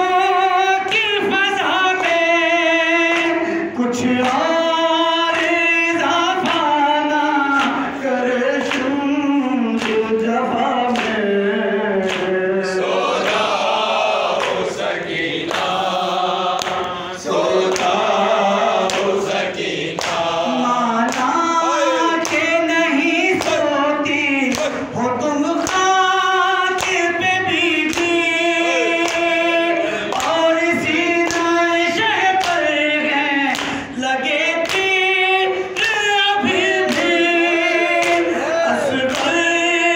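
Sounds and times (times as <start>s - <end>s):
man singing into a microphone: 0.0s - 12.9s, 20.3s - 39.9s
voices singing along: 0.0s - 39.9s.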